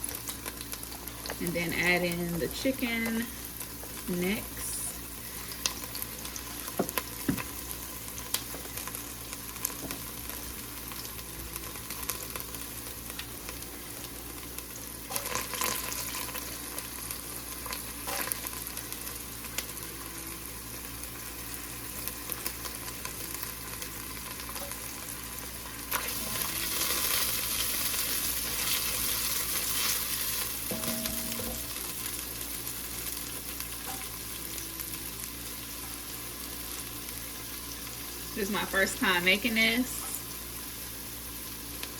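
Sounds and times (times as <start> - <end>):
onions sizzling in oil: 0.0 - 41.9.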